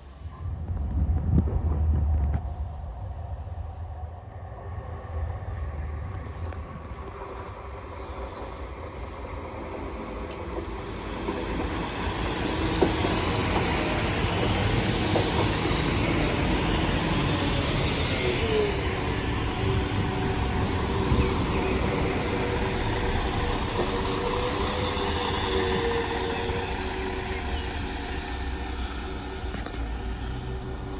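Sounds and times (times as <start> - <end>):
train rumbling on rails: 0.0 - 30.9.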